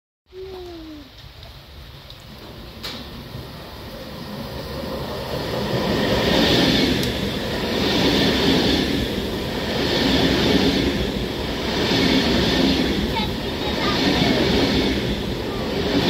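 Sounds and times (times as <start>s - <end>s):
electric train passing at speed: 1.8s - 16.0s.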